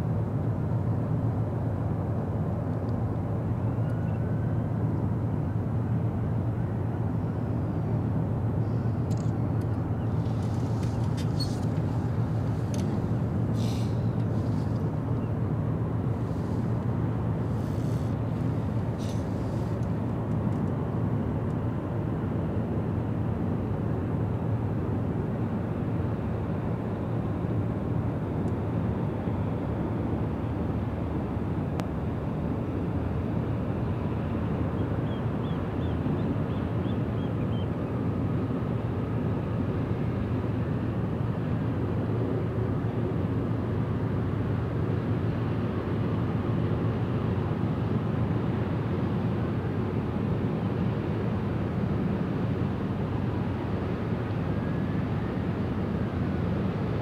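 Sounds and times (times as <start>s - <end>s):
ship engine drone: 0.0s - 57.0s.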